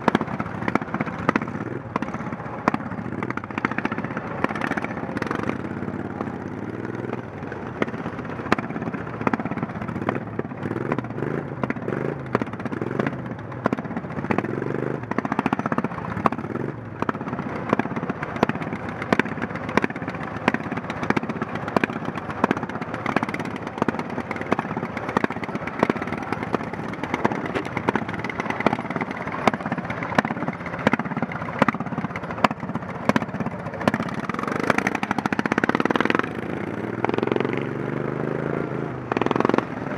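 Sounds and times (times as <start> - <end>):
lawn mower engine racing: 0.0 - 39.9
other mower engines: 0.0 - 39.9.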